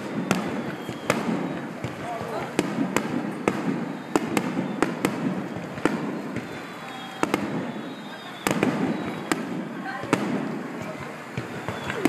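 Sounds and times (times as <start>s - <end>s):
continuous noisy background: 0.0s - 12.0s
fireworks bursting with sharp bangs: 0.0s - 12.0s.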